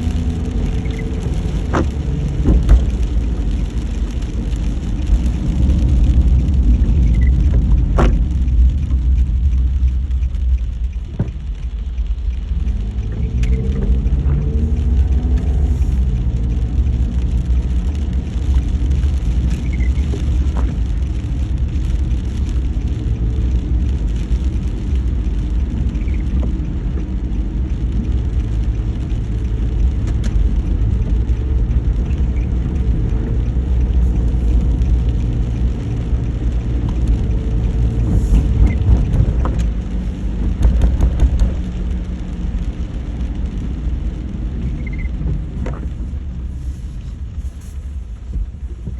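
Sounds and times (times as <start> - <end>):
vehicle rumble: 0.0 - 48.9.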